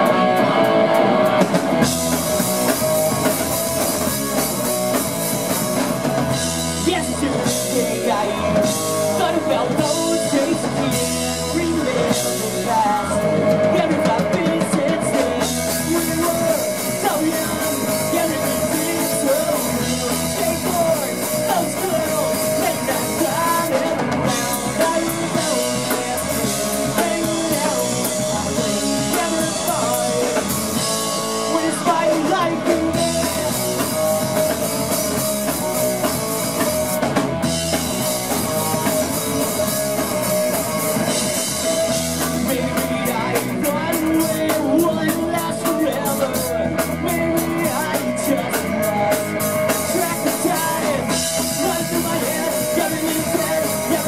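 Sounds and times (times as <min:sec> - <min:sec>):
bass guitar: 0:00.0 - 0:54.0
drum kit: 0:00.0 - 0:54.0
electric guitar: 0:00.0 - 0:54.0
person singing: 0:01.8 - 0:54.0.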